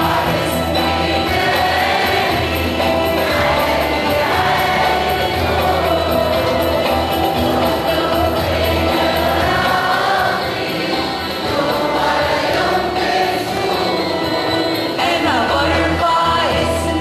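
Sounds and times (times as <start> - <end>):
church choir singing a hymn: 0.0 - 16.9.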